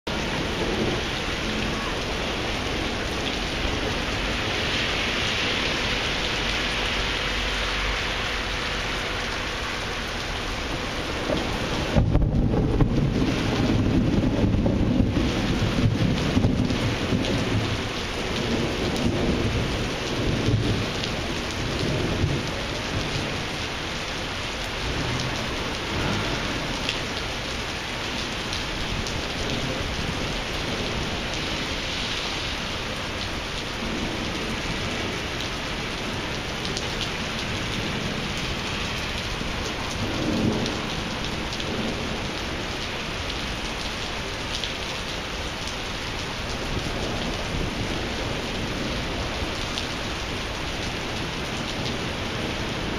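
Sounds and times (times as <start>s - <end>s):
rain falling on pavement: 0.0s - 52.9s
thunder rumbles: 10.1s - 52.9s.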